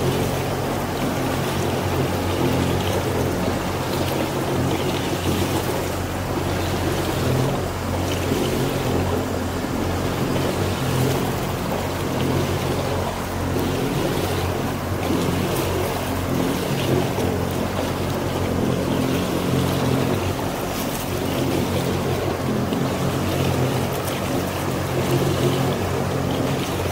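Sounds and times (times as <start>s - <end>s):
motorboat engine humming: 0.0s - 26.9s
water rushing along hull: 0.0s - 26.9s.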